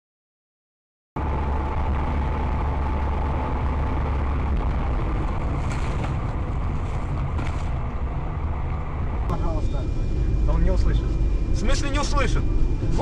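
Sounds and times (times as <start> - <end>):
faint steady whine: 1.2 - 13.0
vehicle engine and road rumble: 1.2 - 13.0.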